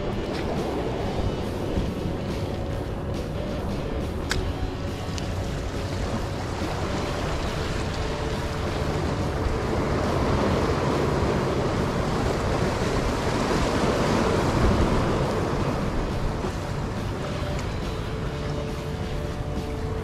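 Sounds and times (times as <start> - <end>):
waves splashing against rocks: 0.0 - 20.0
wind buffeting microphone: 0.0 - 20.0.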